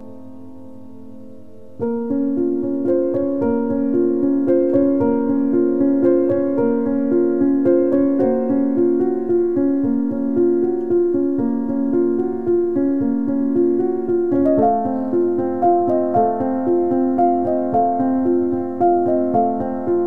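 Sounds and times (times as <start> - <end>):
keyboard playing sustained chords: 0.0 - 20.0.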